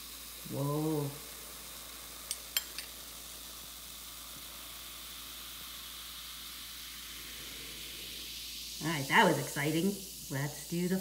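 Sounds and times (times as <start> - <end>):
fizzing hiss of bubbles: 0.0 - 11.0.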